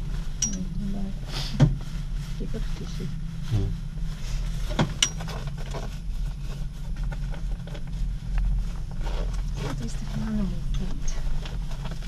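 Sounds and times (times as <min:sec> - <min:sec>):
cable car low hum: 0:00.0 - 0:12.0.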